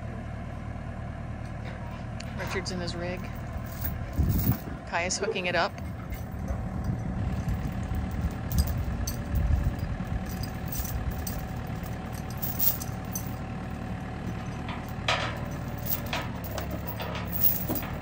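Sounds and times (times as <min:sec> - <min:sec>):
diesel engine running: 0:00.0 - 0:18.0
steel chain clinking: 0:02.2 - 0:04.8, 0:05.6 - 0:18.0.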